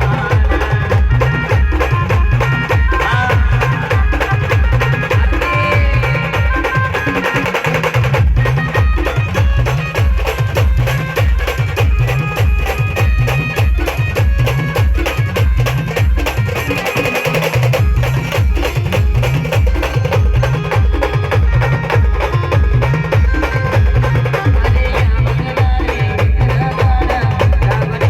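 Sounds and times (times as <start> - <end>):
dense drumming: 0.0 - 28.0
heavy fast bass beat: 0.0 - 28.0.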